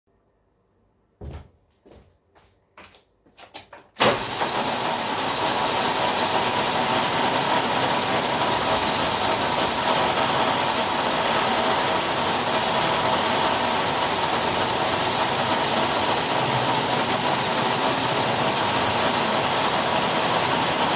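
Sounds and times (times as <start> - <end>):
machine whine: 4.0 - 20.9
milling machine running: 4.0 - 20.9.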